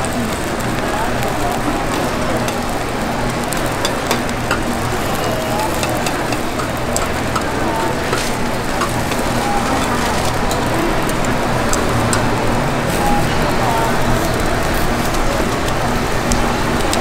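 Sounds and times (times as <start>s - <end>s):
food sizzling on griddle: 0.0s - 17.0s.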